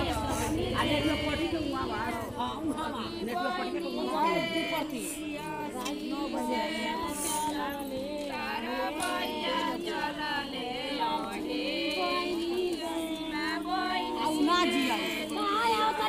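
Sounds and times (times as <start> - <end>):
women singing without instruments: 0.0 - 16.0.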